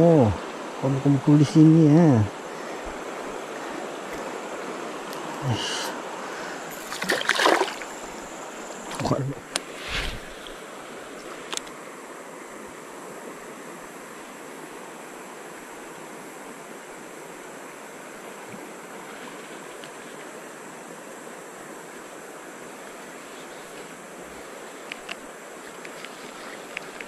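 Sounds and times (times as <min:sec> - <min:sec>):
river water rushing over rapids: 0:00.0 - 0:27.0.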